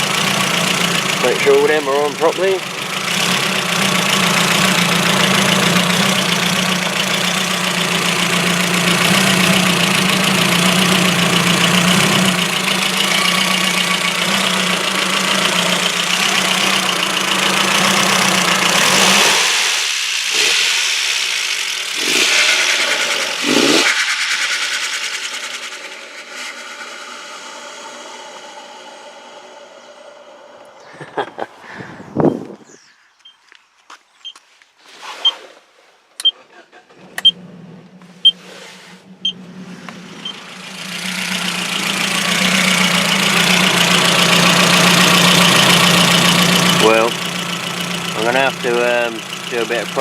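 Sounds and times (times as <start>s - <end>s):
car engine idling with misfire: 0.0s - 30.2s, 36.5s - 50.0s.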